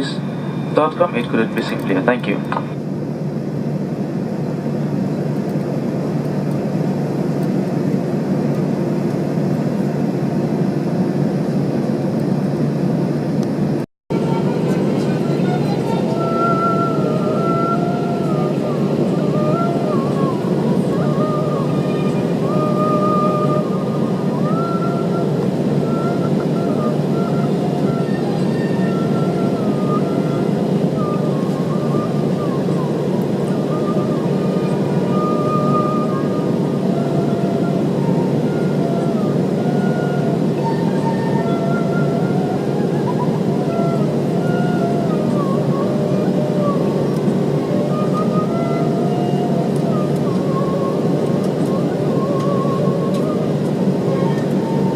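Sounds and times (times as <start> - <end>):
aircraft engines idling: 0.0 - 54.9
cabin air running: 0.0 - 54.9
thin wavering whine: 0.0 - 54.9.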